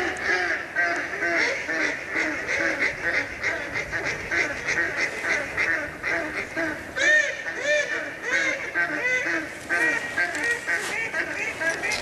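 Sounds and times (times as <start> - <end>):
waterfowl calling: 0.0 - 12.0.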